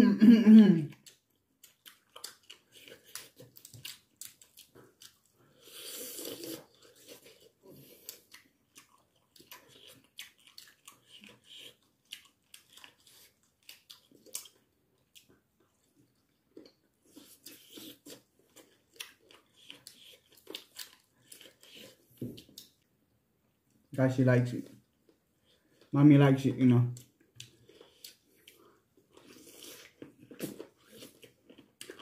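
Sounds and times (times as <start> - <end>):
people chewing and biting: 0.9 - 22.9, 27.0 - 32.0.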